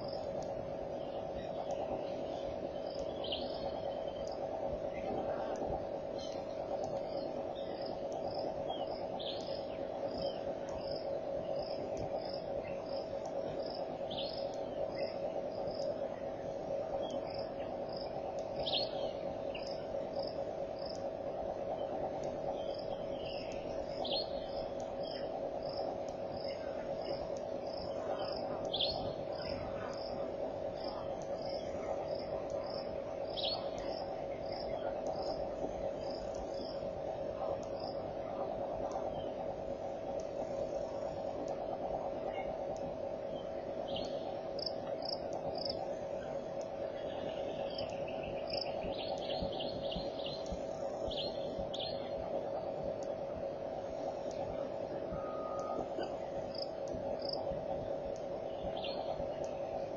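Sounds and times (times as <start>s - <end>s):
insects chirping: 0.0s - 59.9s
steady low hum: 0.0s - 59.9s.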